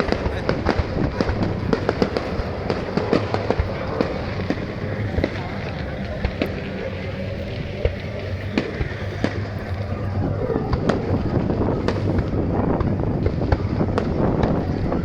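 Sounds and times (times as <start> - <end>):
continuous background rumble: 0.0 - 15.0
fireworks bangs: 0.0 - 15.0.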